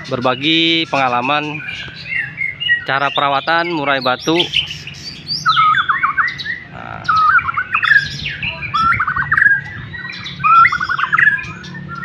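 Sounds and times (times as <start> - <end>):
bird singing whistled phrases: 0.0 - 12.0.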